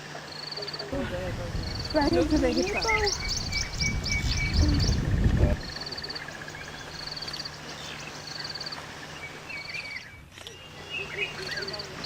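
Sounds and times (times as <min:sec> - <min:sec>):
bird chirps: 0:01.6 - 0:12.0.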